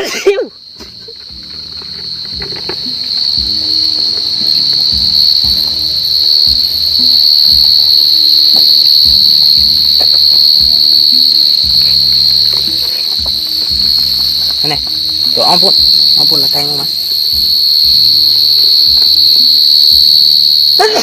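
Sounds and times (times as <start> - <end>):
cricket high-pitched trill: 0.0 - 21.0.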